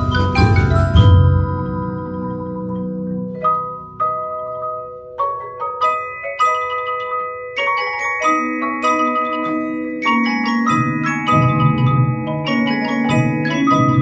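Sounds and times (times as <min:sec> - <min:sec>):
glockenspiel: 0:00.0 - 0:14.0
marimba: 0:00.0 - 0:14.0
vibraphone: 0:00.0 - 0:14.0.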